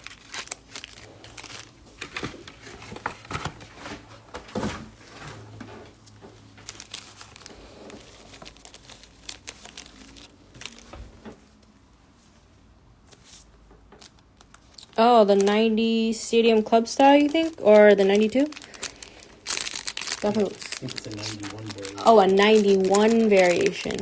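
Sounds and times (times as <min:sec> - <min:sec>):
foil wrappers crinkling and tearing: 0:00.0 - 0:04.0, 0:06.0 - 0:11.0, 0:13.1 - 0:24.0.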